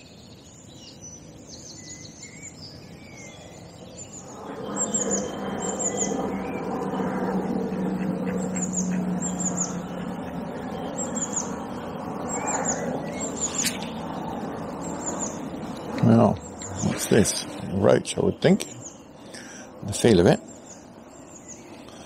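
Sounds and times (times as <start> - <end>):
birds chirping: 0.0 - 22.0
rushing noise with low hum: 2.3 - 22.0.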